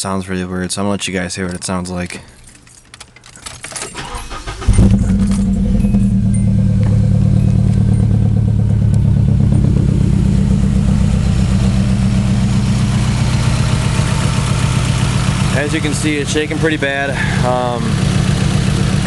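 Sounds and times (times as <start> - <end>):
car engine starting and idling: 3.2 - 19.0.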